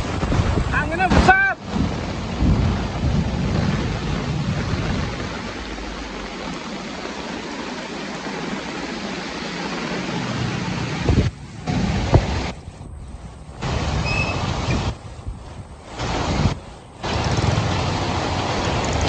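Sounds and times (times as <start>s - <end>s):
wind buffeting microphone: 0.0s - 8.6s, 9.6s - 19.0s
heavy rain pouring: 0.0s - 19.0s.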